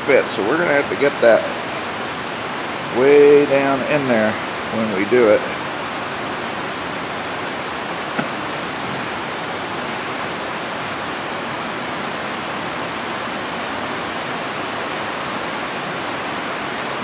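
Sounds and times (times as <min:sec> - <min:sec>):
rain on roof: 0:00.0 - 0:17.0.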